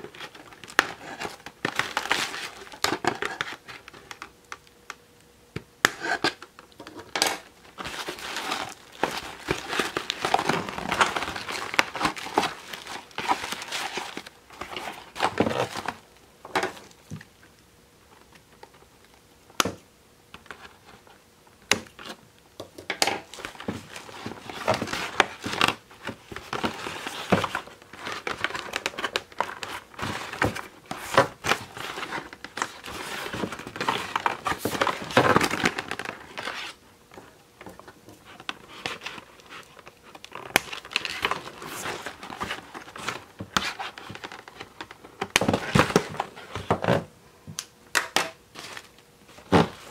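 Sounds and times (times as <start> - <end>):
packaging rustling and crinkling: 0.0 - 4.3, 6.0 - 17.3, 22.9 - 47.1, 48.0 - 49.9.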